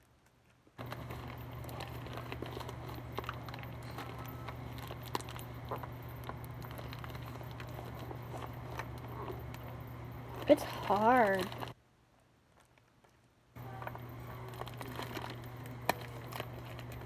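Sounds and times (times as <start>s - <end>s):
plastic package crackling: 0.8s - 11.8s, 13.6s - 17.0s
steady low hum: 0.8s - 11.8s, 13.5s - 17.0s.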